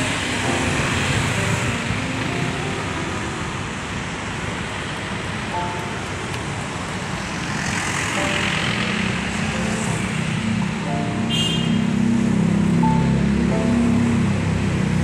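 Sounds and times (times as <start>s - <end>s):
car and motorbike engines: 0.0s - 15.0s.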